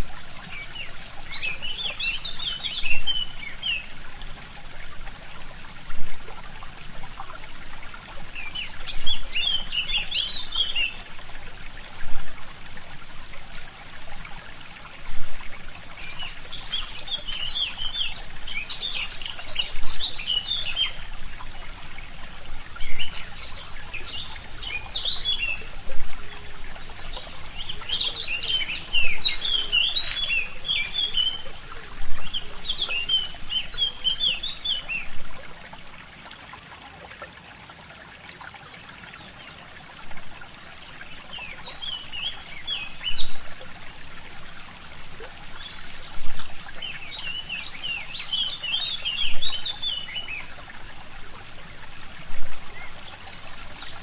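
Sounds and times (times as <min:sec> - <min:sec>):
songbirds chirping: 0:00.0 - 0:36.6, 0:38.2 - 0:54.0
stream trickling: 0:00.0 - 0:54.0.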